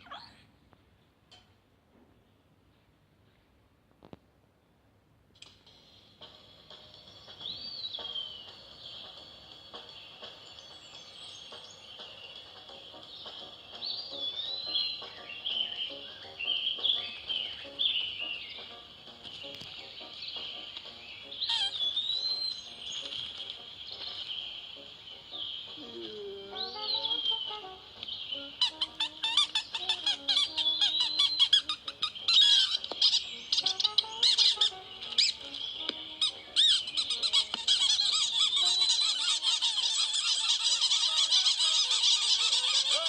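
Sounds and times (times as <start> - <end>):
birds chirping: 5.9 - 43.0
whistled bird note: 7.2 - 43.0.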